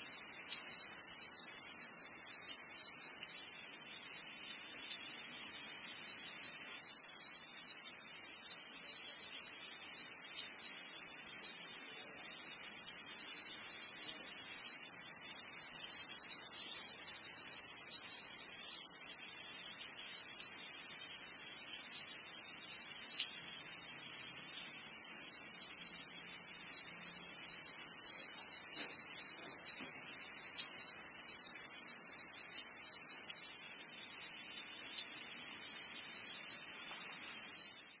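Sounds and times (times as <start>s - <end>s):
leaking hose hissing: 0.0s - 38.0s.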